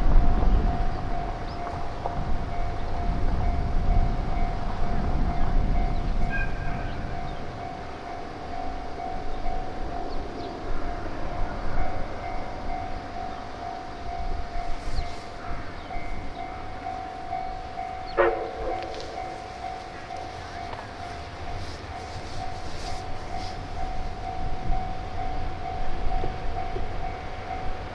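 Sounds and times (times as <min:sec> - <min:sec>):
level crossing warning bell: 0:00.0 - 0:27.9.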